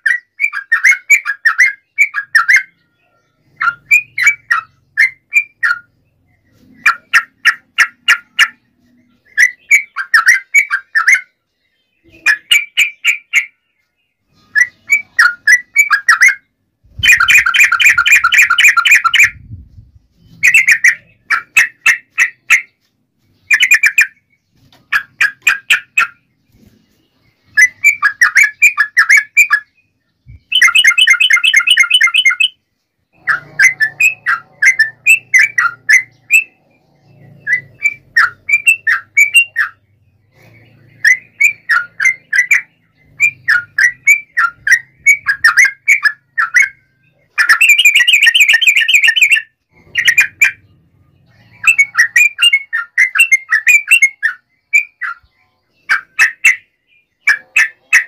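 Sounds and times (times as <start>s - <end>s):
bulbul chattering song: 0.0s - 58.0s.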